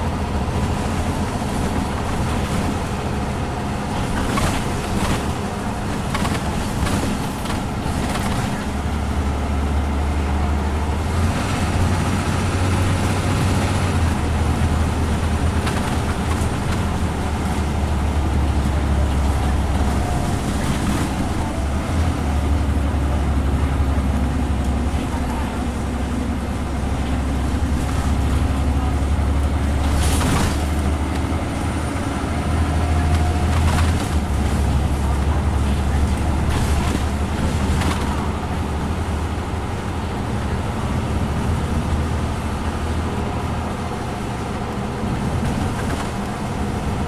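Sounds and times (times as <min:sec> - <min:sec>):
bus diesel engine pulling hard: 0:00.0 - 0:47.0
road and tyre noise: 0:00.0 - 0:47.0.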